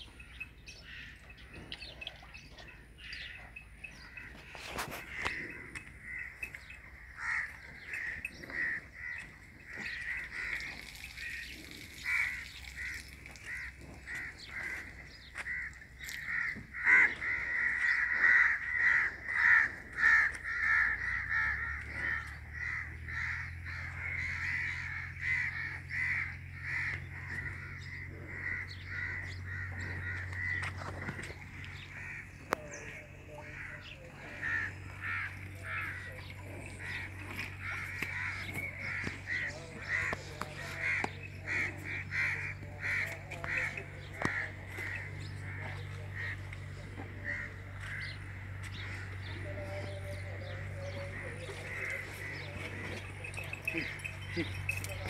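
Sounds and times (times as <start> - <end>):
birds chorus: 0.0 - 55.0.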